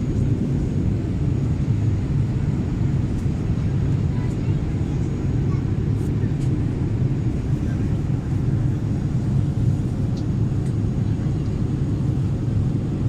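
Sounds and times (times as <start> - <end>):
airplane cabin drone: 0.0 - 13.0.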